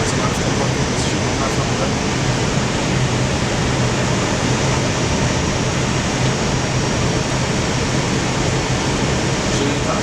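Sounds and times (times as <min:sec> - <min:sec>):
rush of air in cockpit: 0:00.0 - 0:10.0
steady low hum: 0:00.0 - 0:10.0.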